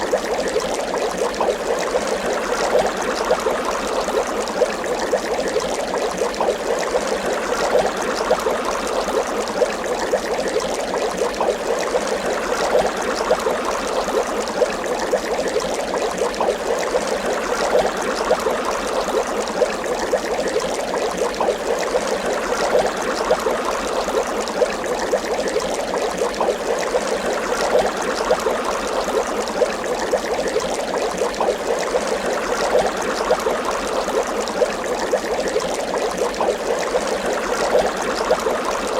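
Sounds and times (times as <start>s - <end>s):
water bubbling and gurgling: 0.0s - 38.9s.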